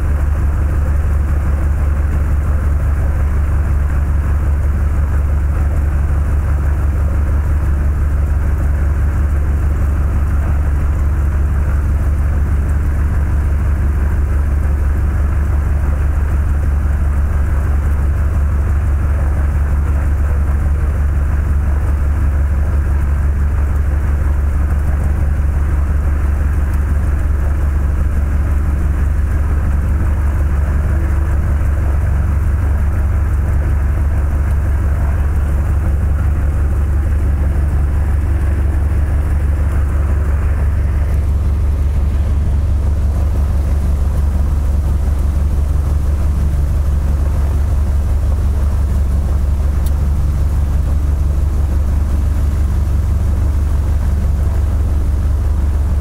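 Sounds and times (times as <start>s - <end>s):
small plane engine drone: 0.0s - 56.0s.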